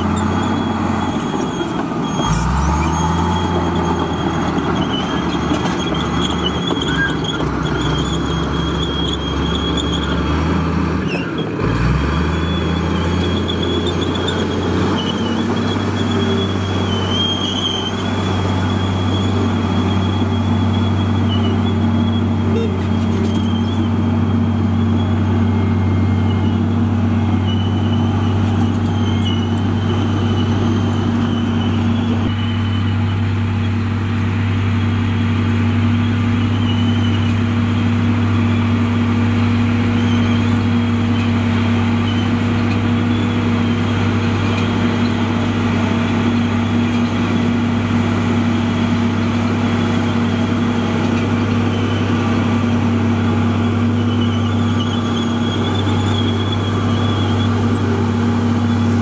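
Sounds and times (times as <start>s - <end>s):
dozer diesel engine droning: 0.0s - 59.0s.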